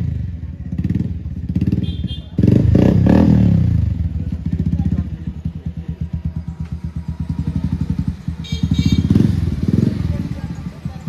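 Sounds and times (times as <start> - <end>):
motorcycle engine exhaust popping: 0.0 - 11.0.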